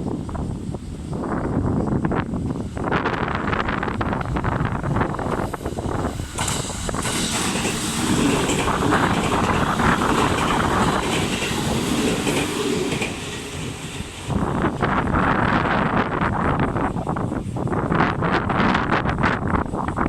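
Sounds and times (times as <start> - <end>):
train passing on track: 0.0 - 20.0.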